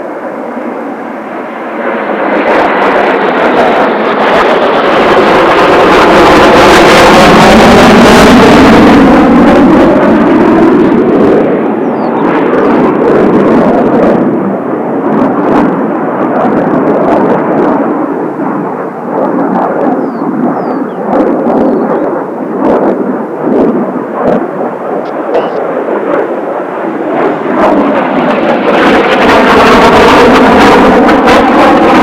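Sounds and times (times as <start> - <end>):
jet aircraft passing overhead: 0.0 - 32.0
rumbling crackling jet drone: 0.0 - 32.0.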